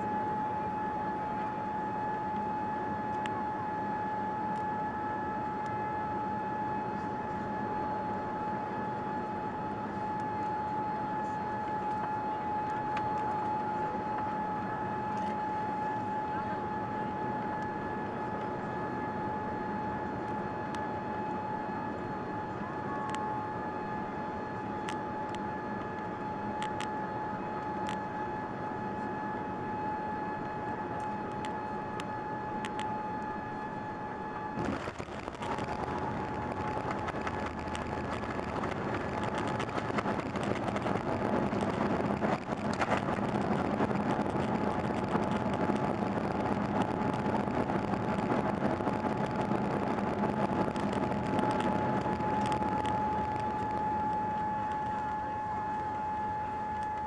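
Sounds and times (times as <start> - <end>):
airliner engine and airflow rush: 0.0 - 57.0.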